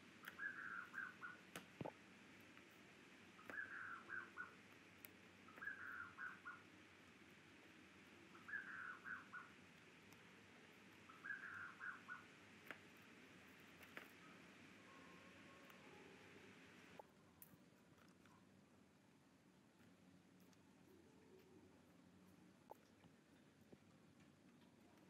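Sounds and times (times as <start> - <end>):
faint bird chirping: 0.0 - 17.5, 19.8 - 25.0.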